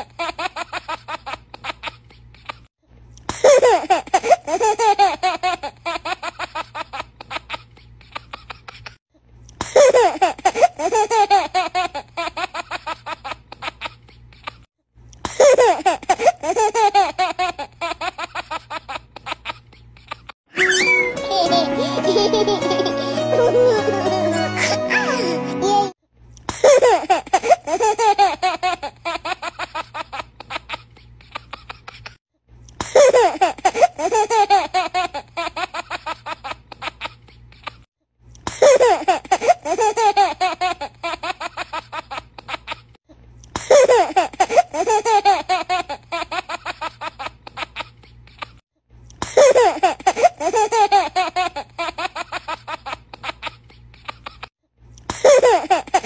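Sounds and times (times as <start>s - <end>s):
baby laughing: 0.0s - 2.7s, 3.3s - 9.0s, 9.6s - 14.7s, 15.3s - 32.2s, 32.8s - 37.9s, 38.5s - 43.0s, 43.6s - 48.6s, 49.2s - 54.5s, 55.1s - 56.0s.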